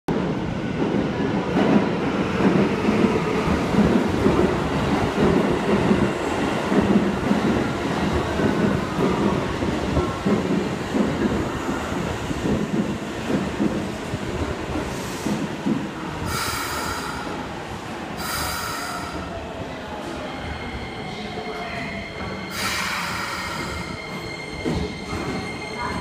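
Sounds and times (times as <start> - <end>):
subway train wheels rumbling: 0.1 - 26.0.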